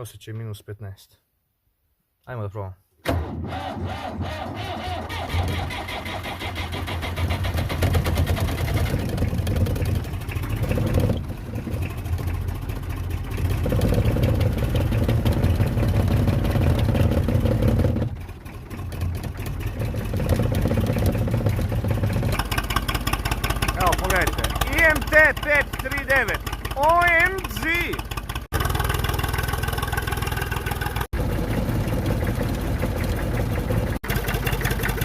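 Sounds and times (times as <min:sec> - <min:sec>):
diesel tractor engine starting: 0:03.0 - 0:35.0.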